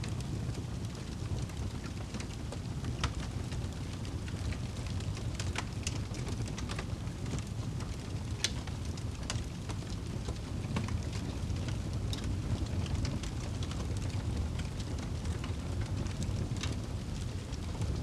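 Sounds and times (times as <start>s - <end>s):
low rumble of fire: 0.0s - 18.0s
wood fire crackling and popping: 0.0s - 18.0s.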